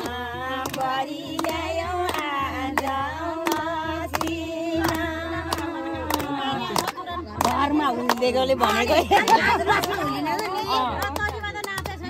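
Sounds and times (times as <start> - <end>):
hands clapping steady beat: 0.0 - 12.0
women singing in chorus: 0.0 - 12.0.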